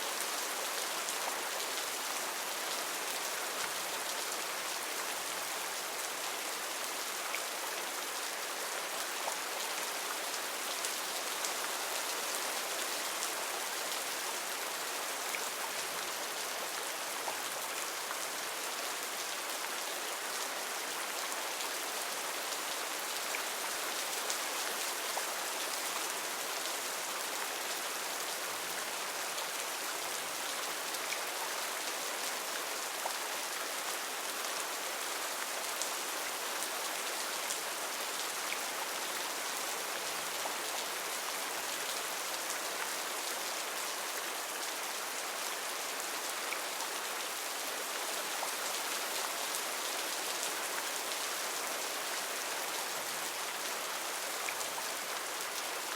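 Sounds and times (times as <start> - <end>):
heavy rain on foliage: 0.0 - 55.9.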